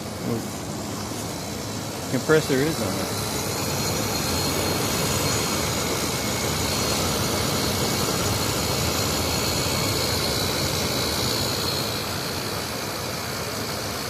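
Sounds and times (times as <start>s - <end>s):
air conditioner fan blowing: 0.0s - 14.0s
faint high whine: 0.0s - 14.0s.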